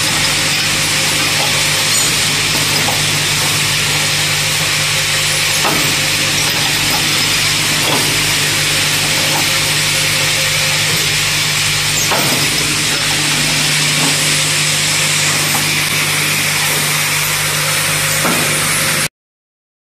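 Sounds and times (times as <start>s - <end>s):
cutting machine humming: 0.0s - 19.1s.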